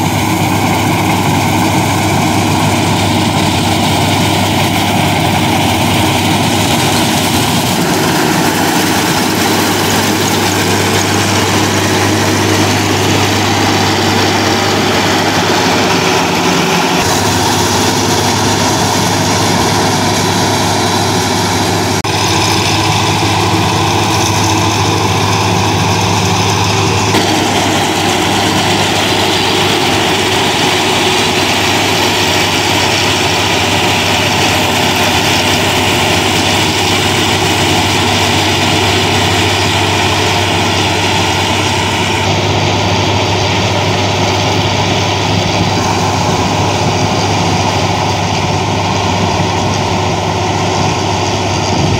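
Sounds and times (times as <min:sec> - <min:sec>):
chopper cutting straw: 0:00.0 - 0:51.9
diesel engine running: 0:00.0 - 0:51.9.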